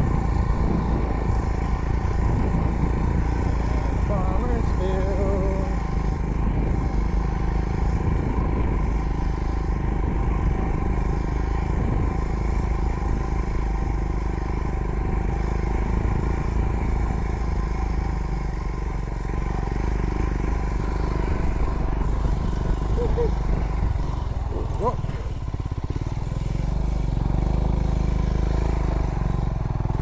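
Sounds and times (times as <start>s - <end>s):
clatter over rough ground: 0.0s - 30.0s
motorcycle engine running: 0.0s - 30.0s.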